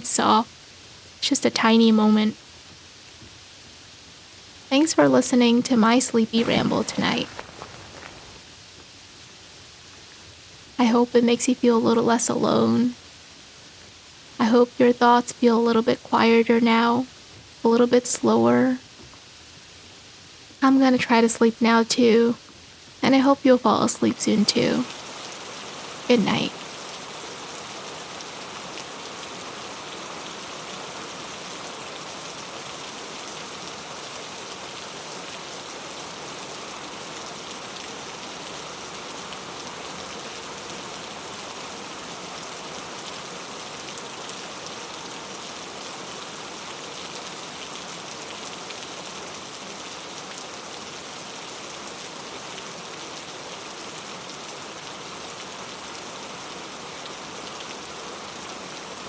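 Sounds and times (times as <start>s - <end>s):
rain hiss: 0.0s - 23.0s, 23.9s - 59.0s.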